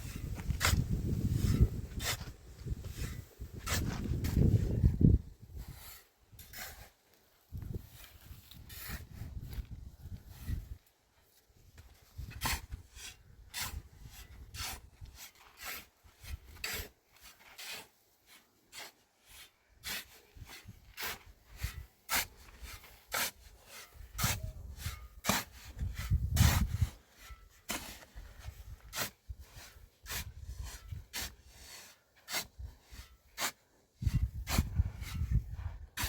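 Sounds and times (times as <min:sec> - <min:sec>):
hand tool scraping rough material: 0:00.0 - 0:10.9, 0:11.9 - 0:36.0.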